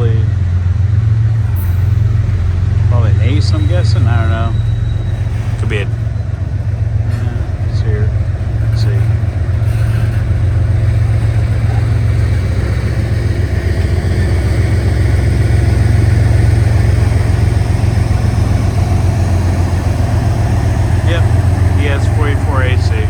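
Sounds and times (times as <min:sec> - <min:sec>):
locomotive engine drone: 0:00.0 - 0:23.0
train rolling noise: 0:00.0 - 0:23.0.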